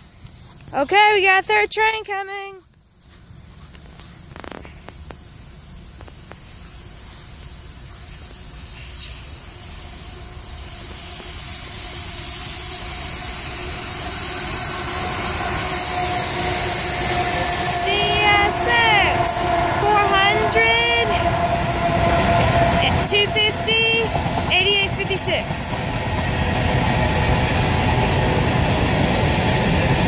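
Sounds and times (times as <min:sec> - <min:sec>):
freight train rumble and hiss: 0:00.0 - 0:30.0.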